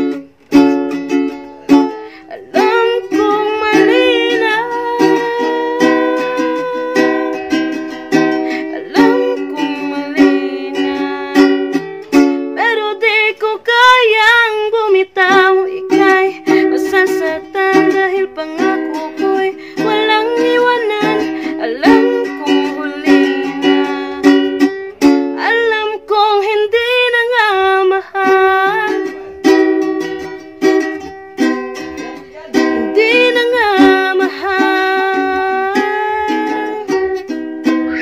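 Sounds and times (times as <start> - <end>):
ukulele strumming: 0.0 - 38.0
woman singing: 1.2 - 38.0.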